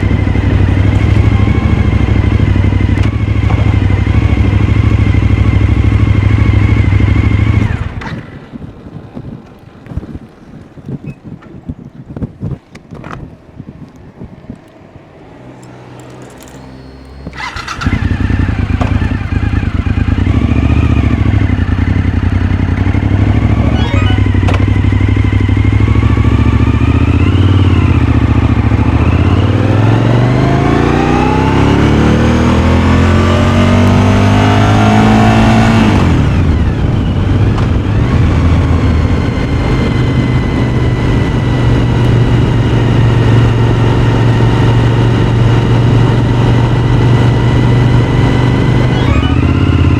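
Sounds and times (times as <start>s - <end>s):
motorcycle engine revving: 0.0s - 8.7s, 15.5s - 49.9s.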